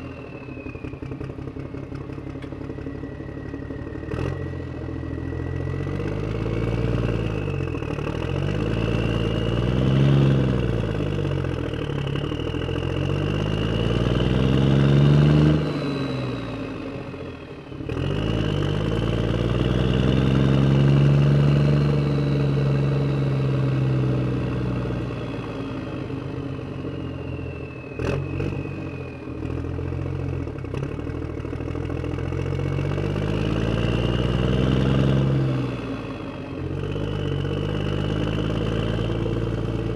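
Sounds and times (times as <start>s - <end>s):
engine revving: 3.7s - 39.9s.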